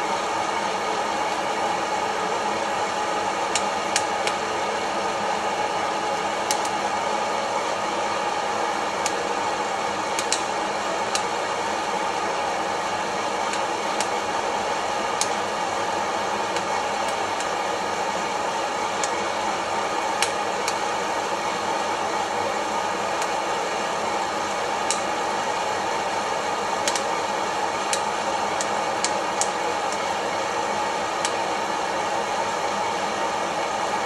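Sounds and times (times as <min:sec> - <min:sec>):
coffee roaster fan blowing: 0:00.0 - 0:34.0.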